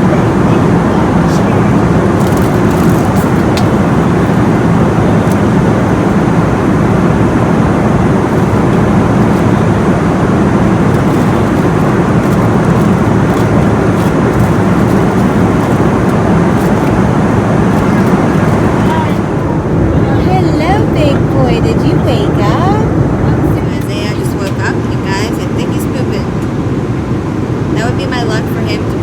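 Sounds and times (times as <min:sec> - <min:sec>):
airliner cabin noise: 0:00.0 - 0:29.0.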